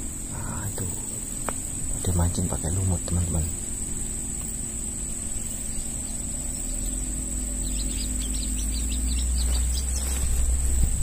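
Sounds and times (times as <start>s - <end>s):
crickets droning: 0.0s - 11.0s
low rumble: 0.0s - 11.0s
small birds chirping: 0.0s - 11.0s.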